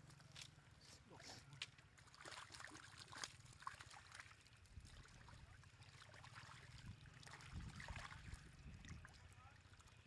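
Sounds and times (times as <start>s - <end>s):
fish splashing in shallow water: 0.0s - 10.0s.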